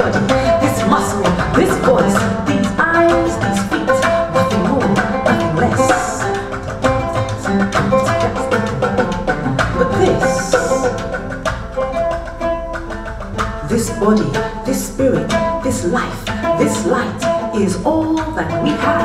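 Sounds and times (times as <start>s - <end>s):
hand drum rhythm: 0.0s - 19.0s
oud plucking a melody: 0.0s - 19.0s.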